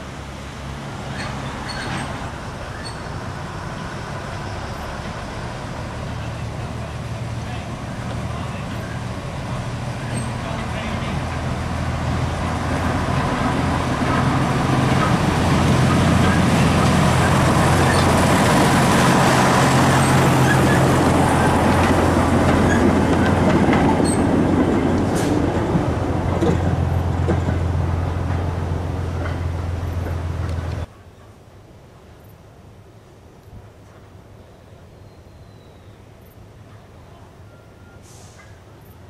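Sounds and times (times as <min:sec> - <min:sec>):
diesel locomotive engine drone: 0:00.0 - 0:32.1.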